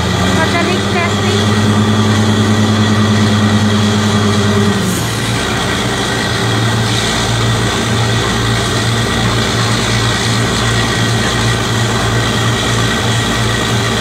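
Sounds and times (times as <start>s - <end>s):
drilling rig engine drone: 0.0s - 14.0s.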